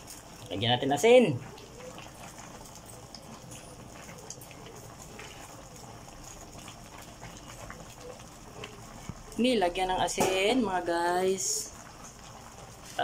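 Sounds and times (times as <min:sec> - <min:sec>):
soup boiling: 0:00.0 - 0:13.0.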